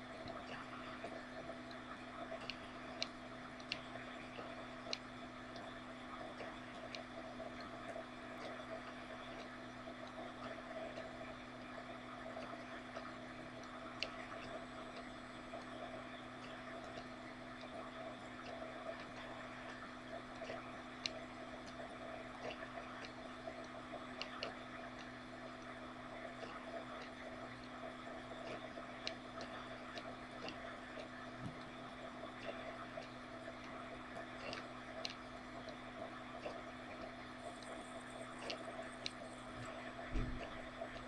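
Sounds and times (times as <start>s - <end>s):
small clicks: 0.2s - 41.0s.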